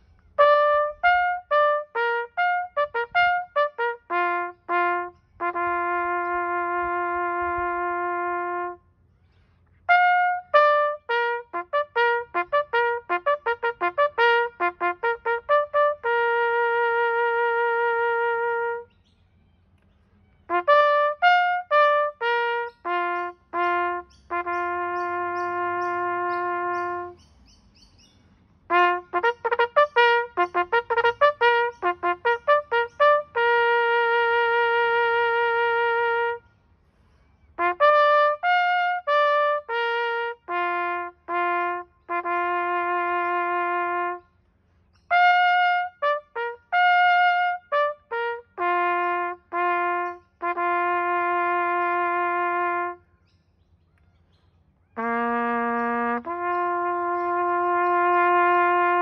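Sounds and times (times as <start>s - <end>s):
trumpet bugle call: 0.0s - 8.9s, 9.8s - 19.0s, 20.5s - 27.2s, 28.7s - 44.4s, 45.0s - 53.1s, 55.0s - 59.0s.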